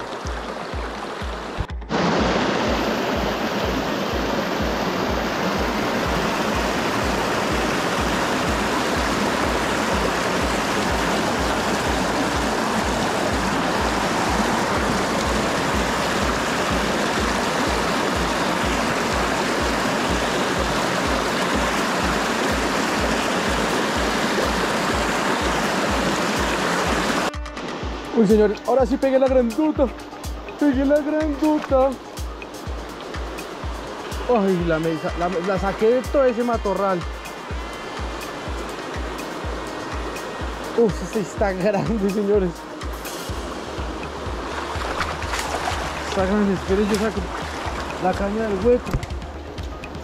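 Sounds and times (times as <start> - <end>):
background music beat: 0.0 - 50.0
small stream rushing: 0.0 - 50.0.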